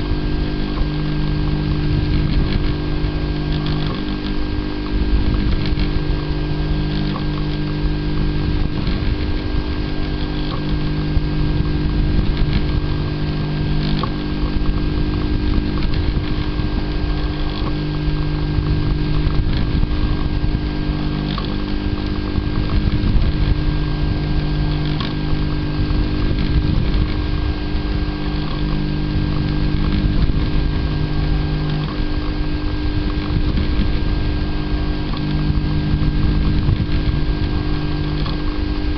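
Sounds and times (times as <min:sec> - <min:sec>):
steady hum: 0:00.0 - 0:38.9
stepper motors whining: 0:00.0 - 0:38.9.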